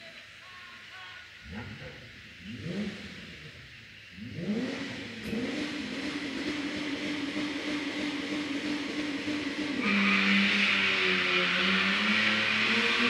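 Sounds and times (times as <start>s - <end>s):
car engine revving: 1.4s - 13.0s.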